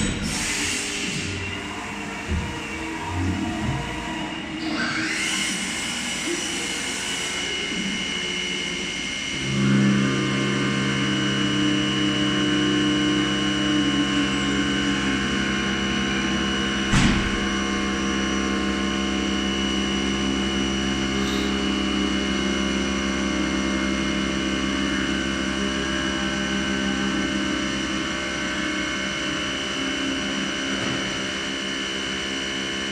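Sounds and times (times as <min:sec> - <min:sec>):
cnc machine whine: 0:00.0 - 0:32.9.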